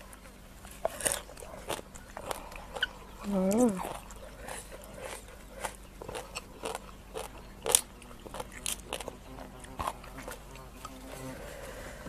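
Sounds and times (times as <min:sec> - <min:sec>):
crab shells crunching and cracking: 0:00.8 - 0:11.0.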